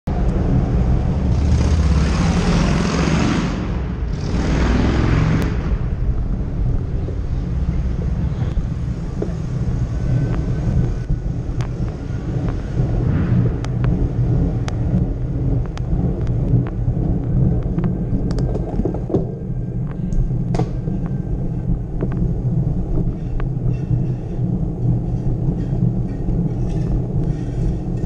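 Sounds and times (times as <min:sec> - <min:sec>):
low road rumble: 0:00.0 - 0:28.0
wind buffeting microphone: 0:00.1 - 0:28.0
bike ticking on cobblestones: 0:05.0 - 0:28.0.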